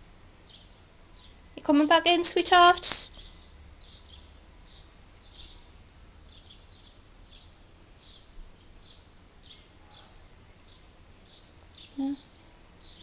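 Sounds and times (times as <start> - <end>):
small bird chirping: 0.4 - 1.8, 2.4 - 13.0.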